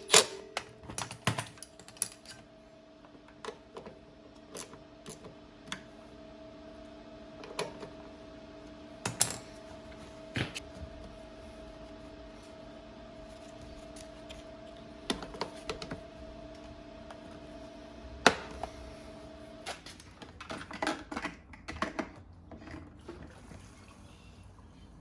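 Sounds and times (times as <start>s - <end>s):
steady low hum: 0.0s - 20.2s.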